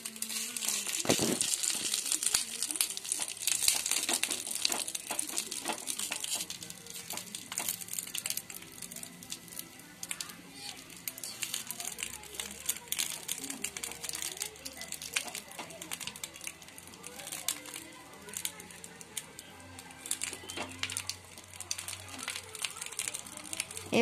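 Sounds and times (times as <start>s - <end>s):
banana leaf crinkling: 0.0s - 24.0s
small crackles: 0.0s - 24.0s.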